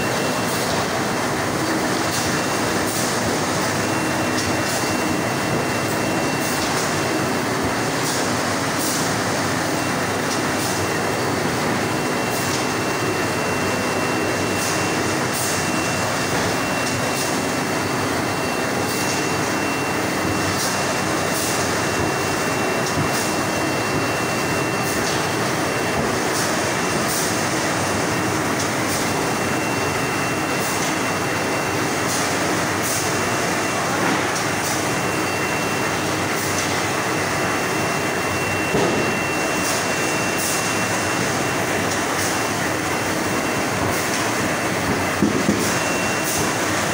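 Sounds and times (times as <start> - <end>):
machine rollers and conveyor din: 0.0 - 46.9.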